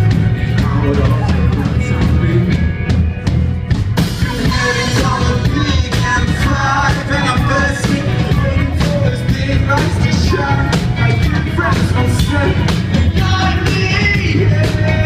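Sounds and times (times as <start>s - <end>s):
drum kit beat: 0.0s - 15.0s
rock band playing: 0.0s - 15.0s.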